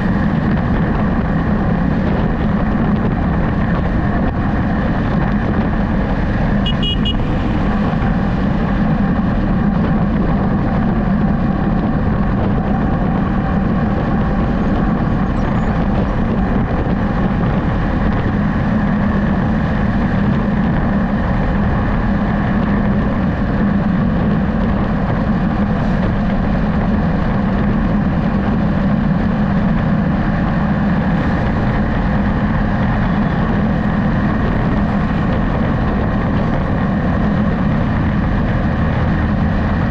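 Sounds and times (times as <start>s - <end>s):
vehicle road noise: 0.0s - 39.9s.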